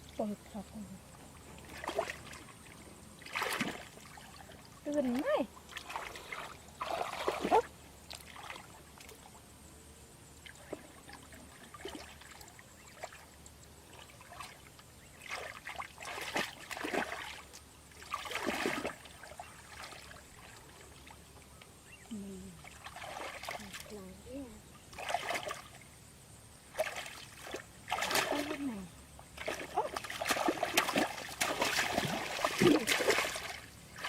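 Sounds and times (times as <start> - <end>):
water splashing and trickling: 0.0 - 9.5, 10.4 - 26.0, 26.6 - 34.0.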